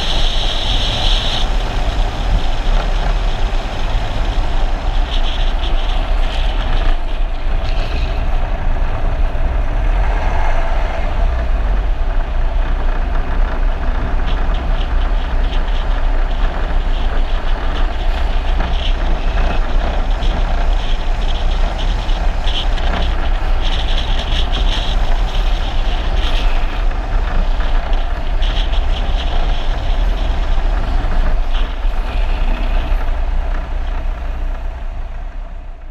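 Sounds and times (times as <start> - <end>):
road and engine rumble: 0.0 - 35.9
wind buffeting microphone: 0.0 - 35.9.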